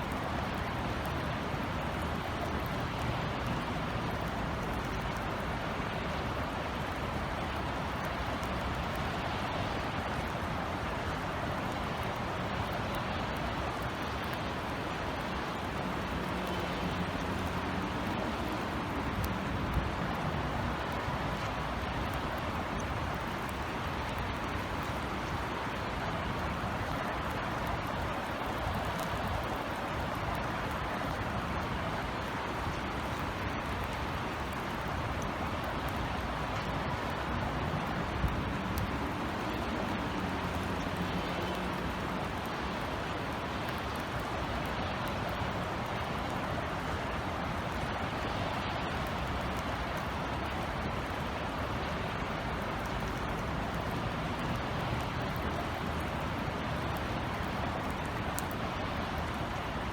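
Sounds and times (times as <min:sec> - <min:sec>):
distant city traffic rumble: 0:00.0 - 0:59.9
light rain falling: 0:00.0 - 0:59.9.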